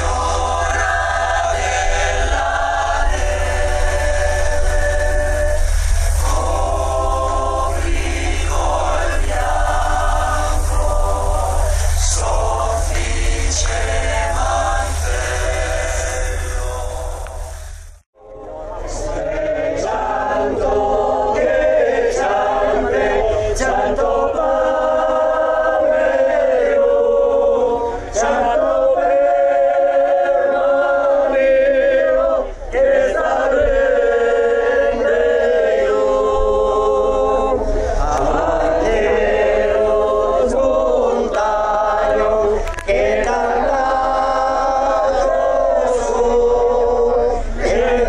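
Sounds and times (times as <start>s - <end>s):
group singing a hymn: 0.0s - 48.0s.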